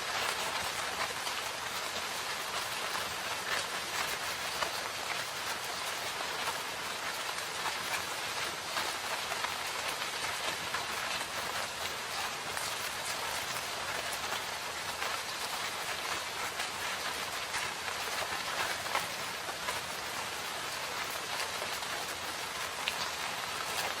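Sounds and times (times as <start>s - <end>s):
rain falling in a forest: 0.0s - 24.0s
raindrops pattering: 0.0s - 24.0s.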